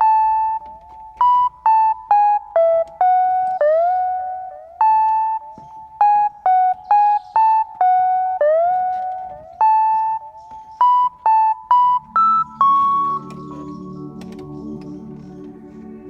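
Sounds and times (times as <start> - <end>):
synthesizer melody: 0.0 - 16.0.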